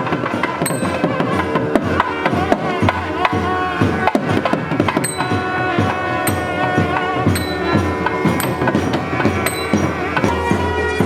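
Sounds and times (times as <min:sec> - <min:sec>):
drums in quick rhythm: 0:00.0 - 0:11.0
held wavering melody: 0:00.0 - 0:11.0.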